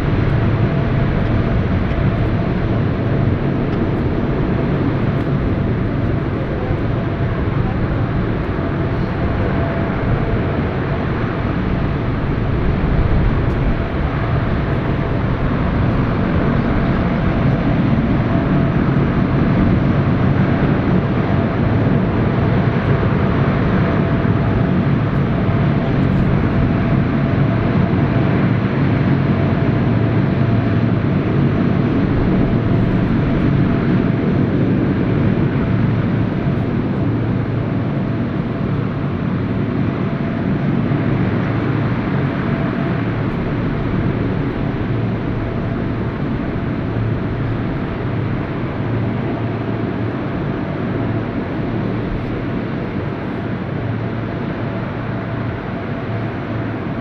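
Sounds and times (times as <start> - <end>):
propeller whine: 0.0 - 57.0
turboprop engines droning: 0.0 - 57.0.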